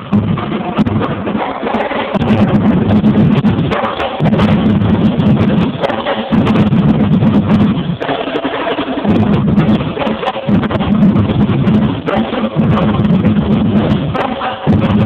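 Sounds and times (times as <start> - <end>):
bass drums pounding: 0.0 - 15.0.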